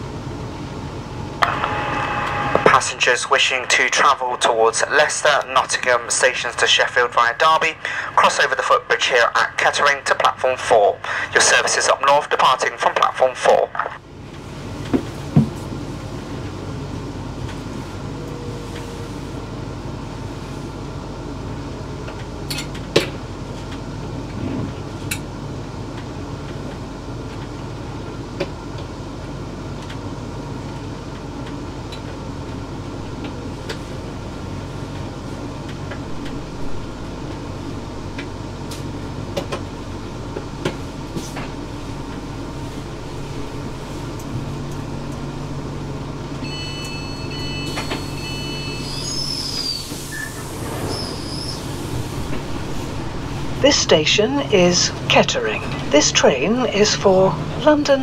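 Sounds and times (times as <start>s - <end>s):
train carriage motor hum: 0.0s - 58.0s
ventilation drone: 0.0s - 58.0s.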